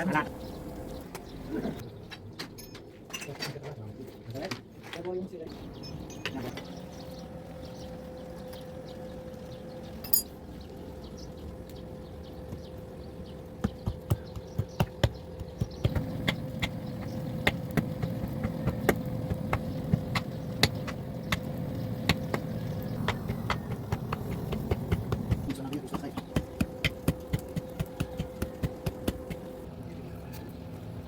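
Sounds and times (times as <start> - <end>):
steady hum: 5.5 - 31.0.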